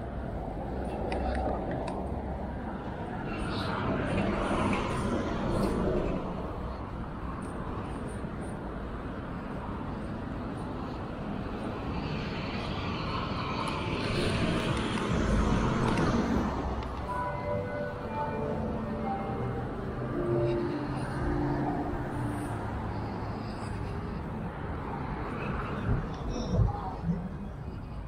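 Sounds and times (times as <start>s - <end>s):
cars going by: 0.0s - 28.0s.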